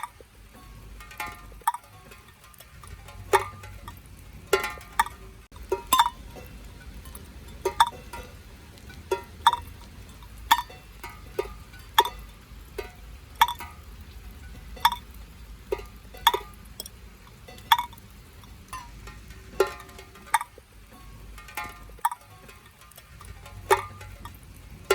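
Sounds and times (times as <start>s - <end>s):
dull water drops: 0.0s - 24.9s
water drips plinking: 0.0s - 24.9s.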